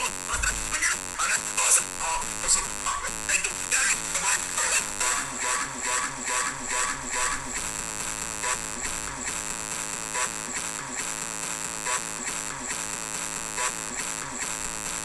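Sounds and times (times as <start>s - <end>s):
funk remix music: 0.0s - 15.0s.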